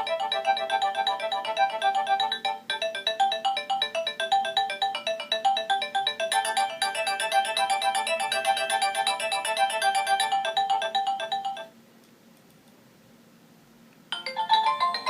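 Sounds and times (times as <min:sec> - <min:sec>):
electronic ringtone melody: 0:00.0 - 0:11.7, 0:14.2 - 0:15.0.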